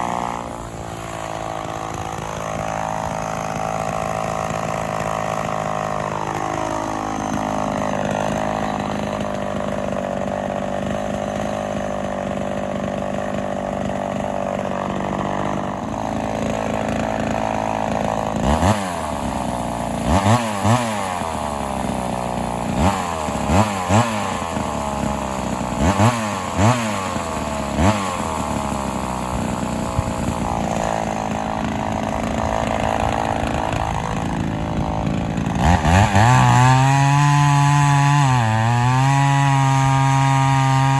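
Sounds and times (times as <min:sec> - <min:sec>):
chainsaw running and revving: 0:00.0 - 0:40.9.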